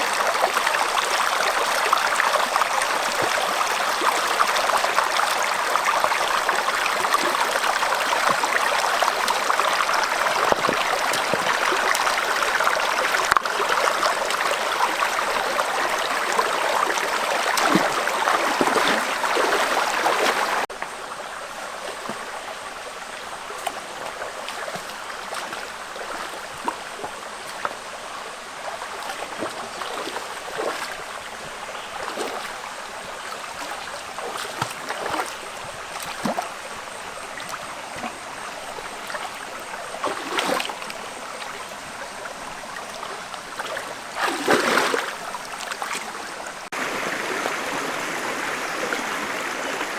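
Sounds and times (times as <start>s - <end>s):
small water splashes: 0.0s - 49.9s
stream water trickling: 0.0s - 49.9s.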